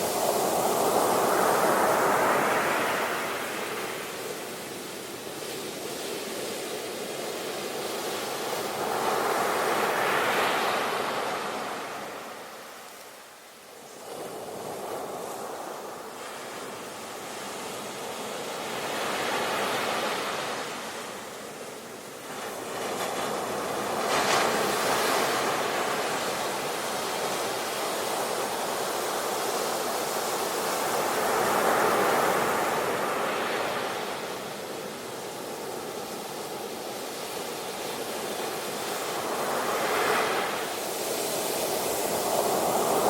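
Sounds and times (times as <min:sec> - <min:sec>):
sea waves breaking on shore: 0:00.0 - 0:43.0.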